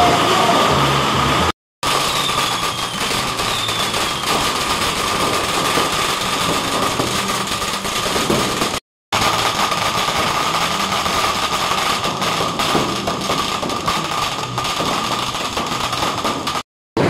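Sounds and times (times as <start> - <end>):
firecrackers crackling and popping: 0.0 - 16.7.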